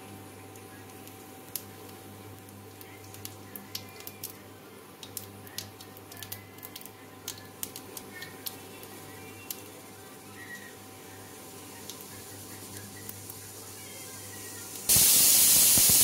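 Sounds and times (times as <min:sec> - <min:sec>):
seeds popping in hot oil: 0:00.5 - 0:09.8, 0:11.4 - 0:16.0.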